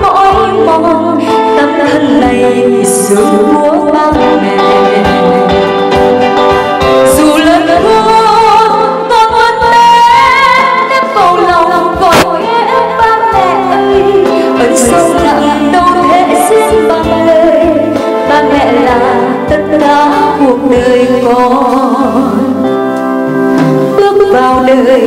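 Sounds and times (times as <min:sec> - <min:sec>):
instrumental accompaniment: 0:00.0 - 0:25.0
woman singing into microphone: 0:00.0 - 0:25.0.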